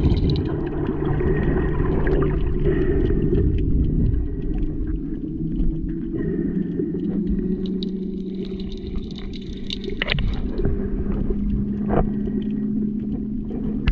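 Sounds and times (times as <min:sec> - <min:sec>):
faint clicks and crackles: 0:00.0 - 0:13.9
humming drone: 0:00.0 - 0:13.9
low underwater rumble: 0:00.0 - 0:13.9.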